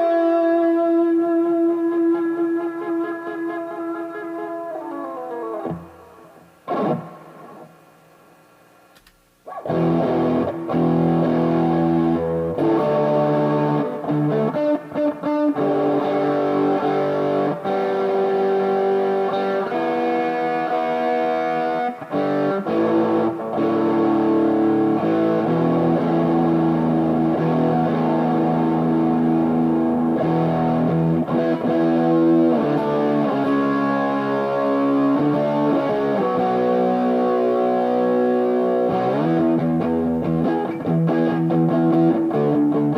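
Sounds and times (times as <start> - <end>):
electric guitar playing: 0.0 - 7.8, 9.5 - 42.9.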